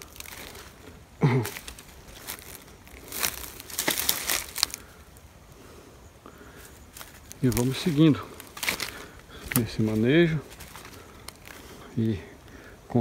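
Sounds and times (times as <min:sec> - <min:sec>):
twigs snapping: 0:00.0 - 0:05.2, 0:06.6 - 0:12.6
footsteps crunching dry brush: 0:00.0 - 0:13.0.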